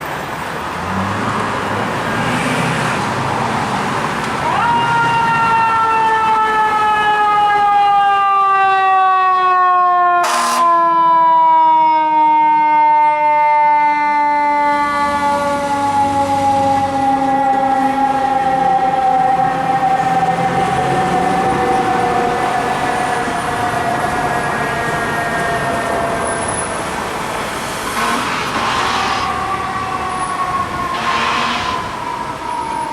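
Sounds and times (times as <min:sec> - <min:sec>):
siren winding down: 0:04.4 - 0:27.0, 0:27.8 - 0:32.9.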